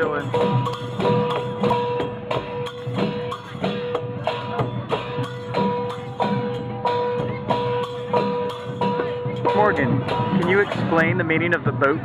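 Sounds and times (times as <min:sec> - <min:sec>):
drums in steady beat: 0:00.0 - 0:12.0.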